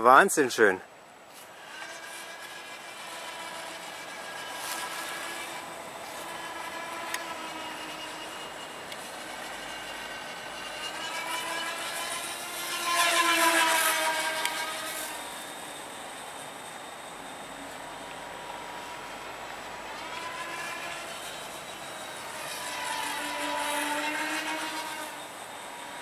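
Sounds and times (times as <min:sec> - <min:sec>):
model aircraft motor whining: 0:01.2 - 0:26.0.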